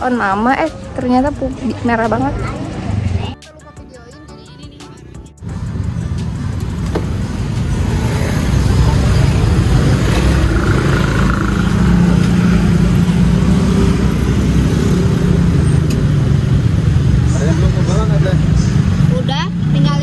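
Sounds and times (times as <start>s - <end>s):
passing cars and motorcycles: 0.0s - 3.4s, 5.0s - 20.0s.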